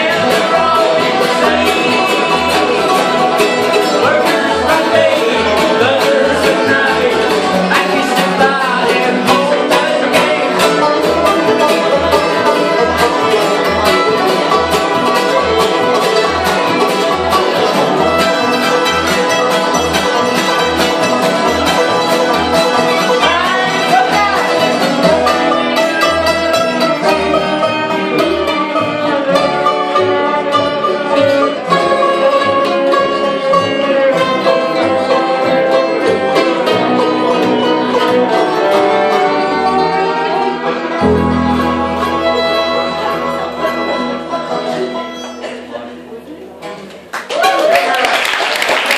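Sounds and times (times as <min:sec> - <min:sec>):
fiddle: 0:00.0 - 0:46.8
acoustic guitar: 0:00.0 - 0:47.1
upright bass: 0:00.0 - 0:47.1
banjo: 0:00.0 - 0:48.9
mandolin: 0:00.0 - 0:48.9.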